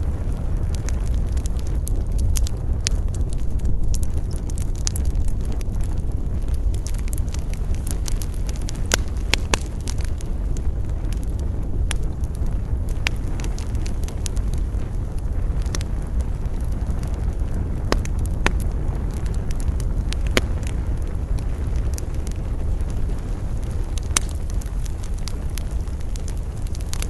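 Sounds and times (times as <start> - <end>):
campfire crackles and pops: 0.0 - 27.0.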